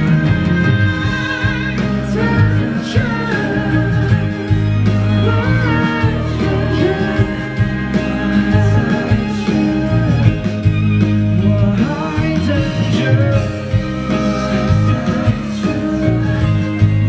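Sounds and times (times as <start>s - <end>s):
bass line: 0.0s - 17.0s
guitar melody: 0.0s - 17.0s
live pop band playing: 0.0s - 17.0s.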